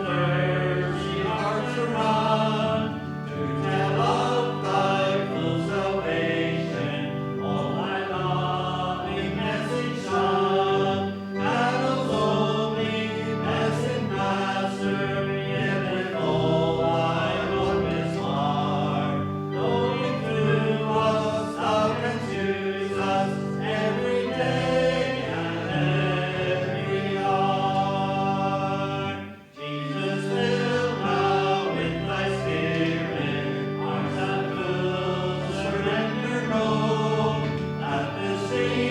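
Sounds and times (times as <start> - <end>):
congregation singing a hymn: 0.0 - 38.9
sustained instrumental chords: 0.0 - 38.9.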